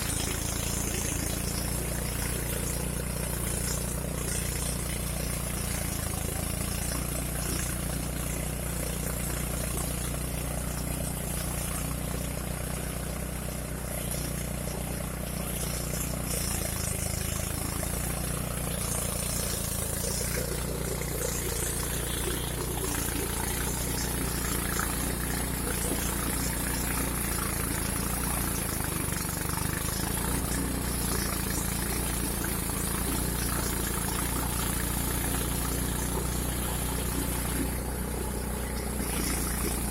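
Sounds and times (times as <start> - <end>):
threshing machine motor humming: 0.0 - 39.9.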